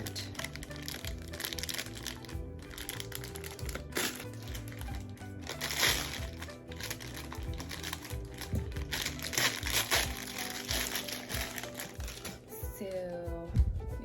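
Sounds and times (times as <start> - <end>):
plastic packaging crinkling: 0.0 - 12.5
background music: 0.0 - 14.0.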